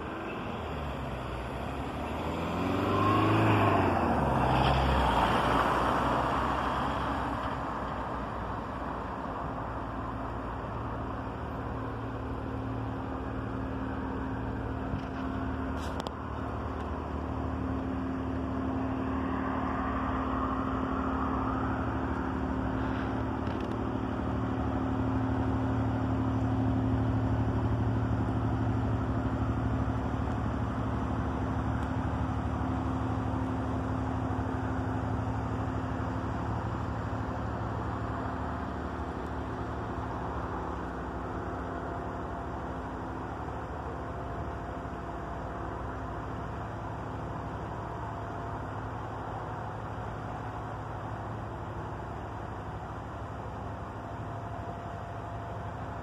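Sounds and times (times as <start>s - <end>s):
ship engine droning: 0.0s - 56.0s.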